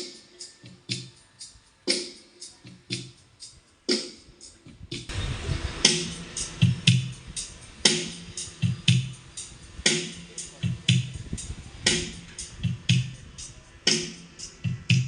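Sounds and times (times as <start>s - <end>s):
drum machine music: 0.0s - 15.0s.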